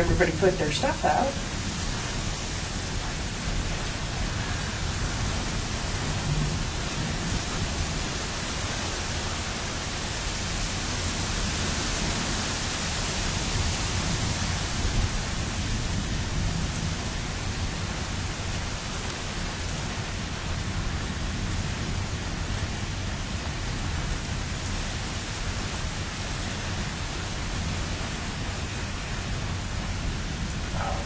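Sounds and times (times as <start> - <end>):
low thunder rumble: 0.0 - 25.8, 26.9 - 31.0
rain hissing: 0.0 - 31.0
wind: 0.0 - 31.0.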